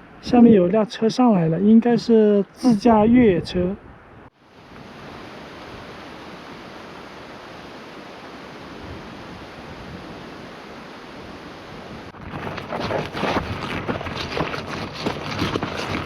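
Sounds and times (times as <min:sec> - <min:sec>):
wind rushing over microphone: 0:00.0 - 0:00.8, 0:02.6 - 0:16.0.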